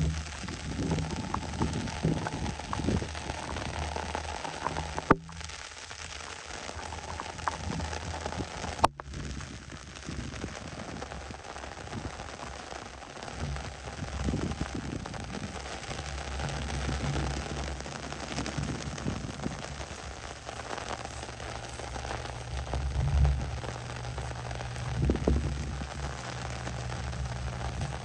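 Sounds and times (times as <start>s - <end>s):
rain falling on grass: 0.0s - 28.0s.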